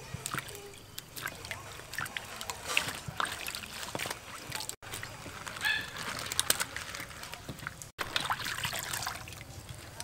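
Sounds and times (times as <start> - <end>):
water sloshing in metal basin: 0.0 - 10.0.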